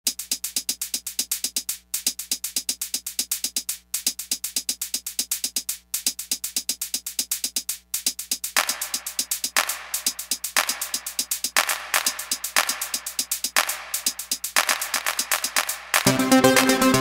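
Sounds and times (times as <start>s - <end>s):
electronic music with drum-machine beat: 0.0s - 17.0s.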